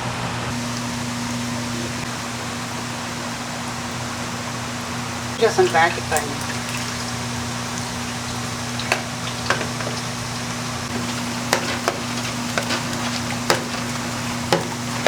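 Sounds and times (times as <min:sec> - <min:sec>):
doughnuts sizzling in hot oil: 0:00.5 - 0:15.0.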